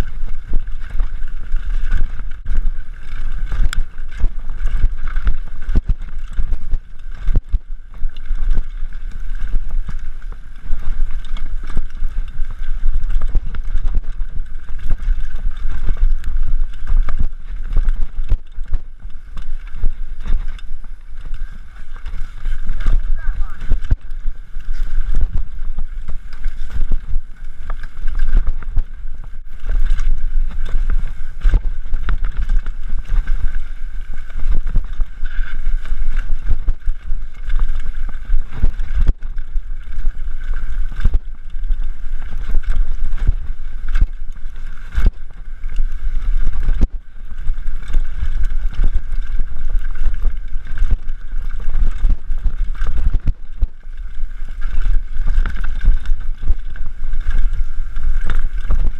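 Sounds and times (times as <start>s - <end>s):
wind buffeting microphone: 0.0s - 58.9s
heavy low rumble: 9.4s - 58.9s.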